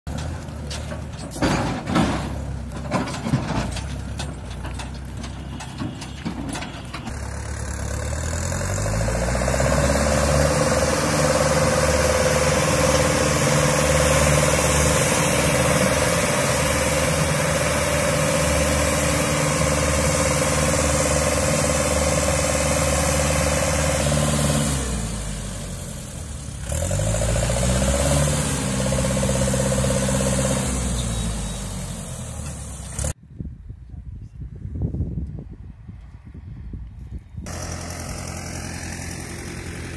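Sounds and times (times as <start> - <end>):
tractor diesel engine revving: 0.1 - 33.2, 37.5 - 39.9.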